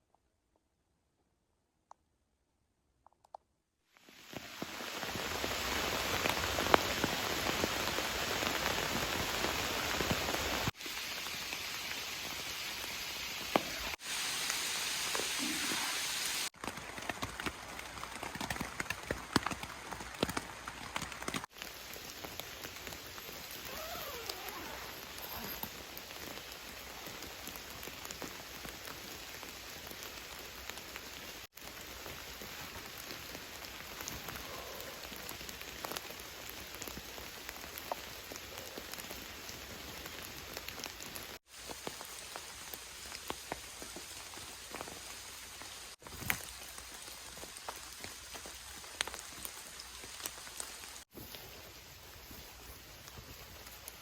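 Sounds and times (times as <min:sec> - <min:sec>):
heavy rain: 0:04.1 - 0:51.1.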